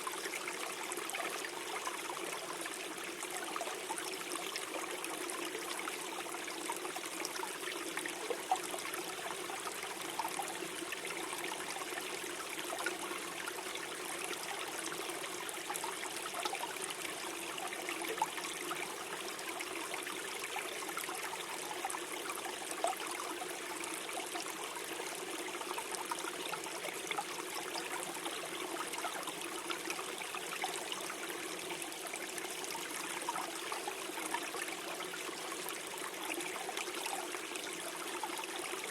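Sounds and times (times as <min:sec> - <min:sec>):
stream gurgling over stones: 0:00.0 - 0:38.9.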